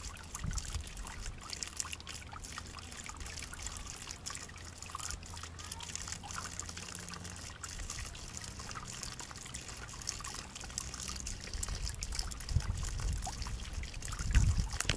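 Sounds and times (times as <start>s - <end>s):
water trickling onto grass: 0.0s - 14.9s.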